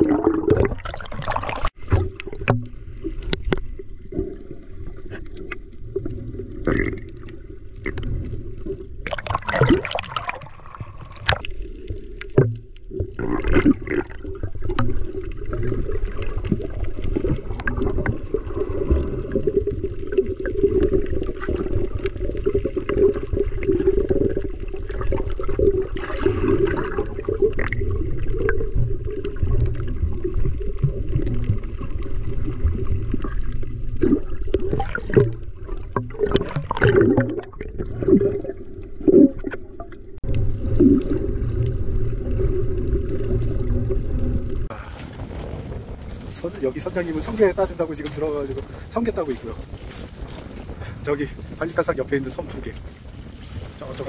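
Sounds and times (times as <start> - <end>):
water gurgling and sloshing: 0.0 - 54.0.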